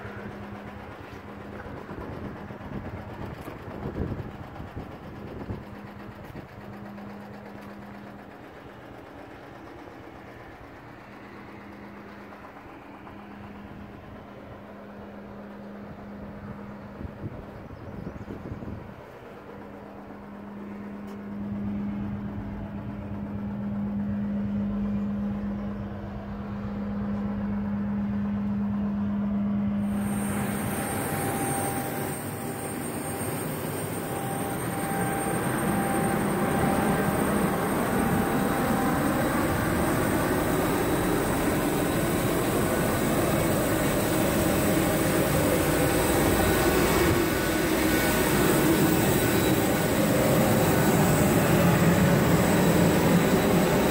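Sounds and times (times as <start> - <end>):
jet turbine hum: 0.0 - 53.9
jet turbine rush and whine: 0.0 - 53.9.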